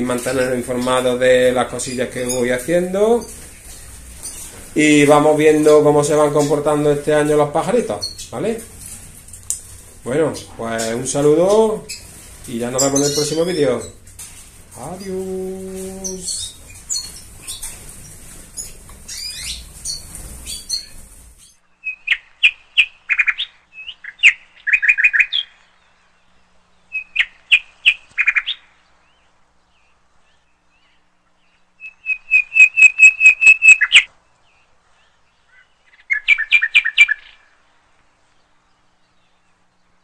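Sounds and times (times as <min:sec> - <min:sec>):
faint chirping: 0:00.0 - 0:40.0
songbird singing: 0:00.0 - 0:40.0.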